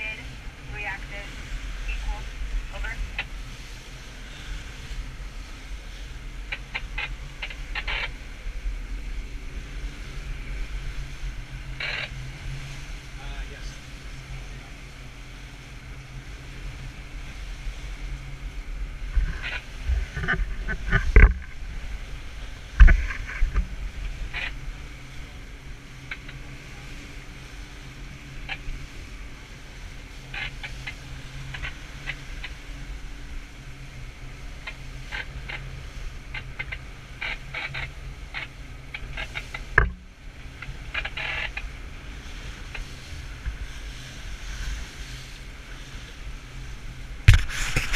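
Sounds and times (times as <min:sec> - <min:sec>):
boat engine running: 0:00.0 - 0:47.9
rushing water: 0:00.0 - 0:47.9
wind: 0:00.0 - 0:47.9.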